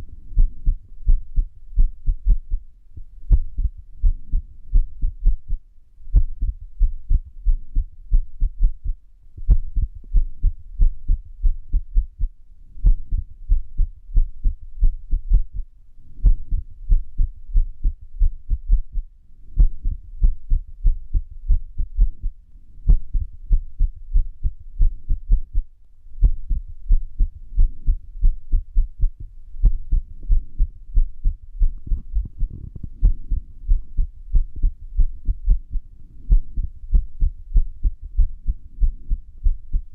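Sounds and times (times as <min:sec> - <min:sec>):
irregular heartbeat thumps: 0:00.0 - 0:39.9.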